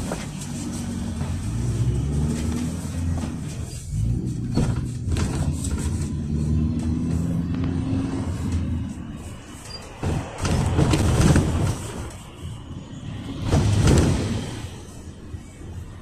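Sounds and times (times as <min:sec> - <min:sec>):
cabin rattling and rumble: 0:00.0 - 0:07.1, 0:08.3 - 0:14.9
minibus engine running: 0:00.0 - 0:16.0
road noise: 0:00.0 - 0:16.0.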